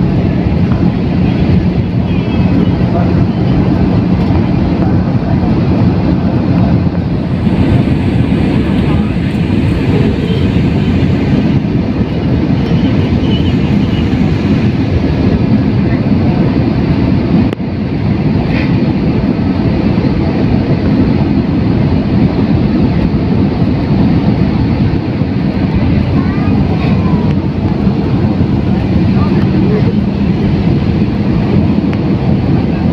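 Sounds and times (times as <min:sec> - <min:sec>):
jet cabin engine roar: 0:00.0 - 0:32.9.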